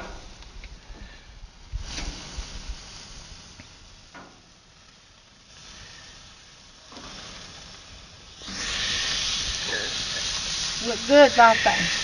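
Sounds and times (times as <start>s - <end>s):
steaks sizzling on grill: 0.0s - 12.0s.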